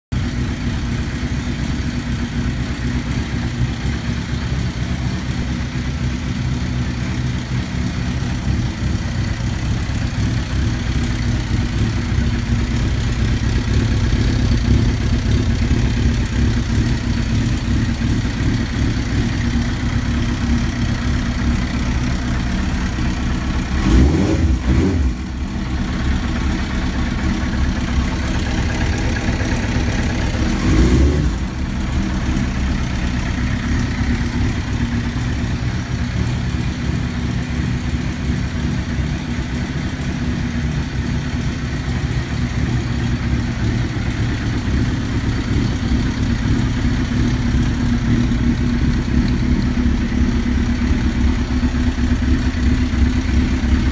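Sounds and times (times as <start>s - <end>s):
motorcycle engine idling: 0.2s - 53.9s.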